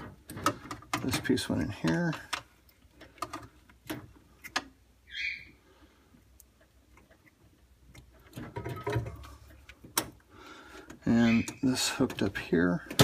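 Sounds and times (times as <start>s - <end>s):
plastic parts clicking and rattling: 0.0s - 4.8s, 6.4s - 13.0s.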